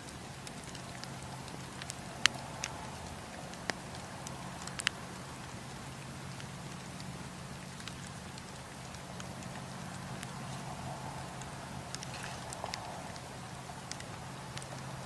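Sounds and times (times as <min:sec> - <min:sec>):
campfire wood crackling and popping: 0:00.0 - 0:15.0.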